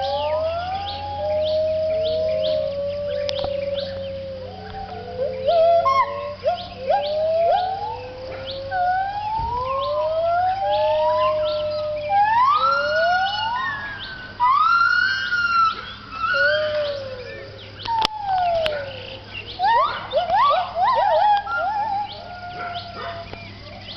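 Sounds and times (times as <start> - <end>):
gibbons whooping calls: 0.0 - 23.9.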